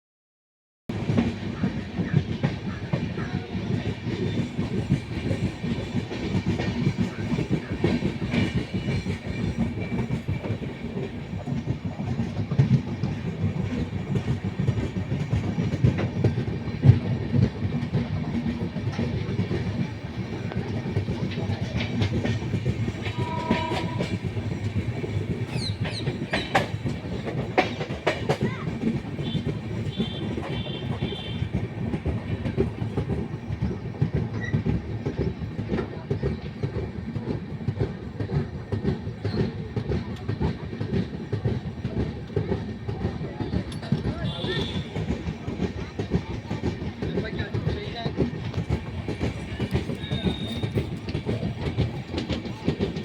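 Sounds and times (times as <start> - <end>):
train rumble: 0.9 - 53.0
wheels clickety-clack on rails: 0.9 - 53.0.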